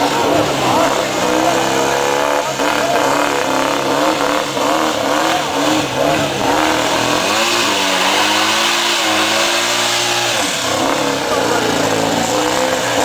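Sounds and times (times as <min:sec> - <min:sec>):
turbocharged car engine revving: 0:00.0 - 0:13.0.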